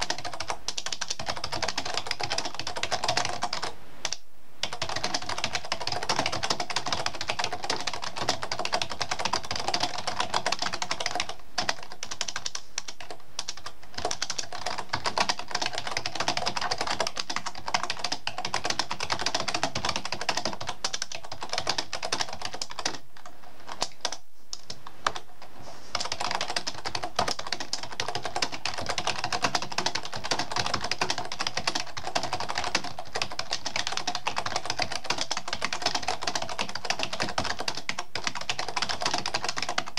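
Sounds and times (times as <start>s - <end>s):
fast typing on keyboard: 0.0s - 25.3s, 25.9s - 39.9s.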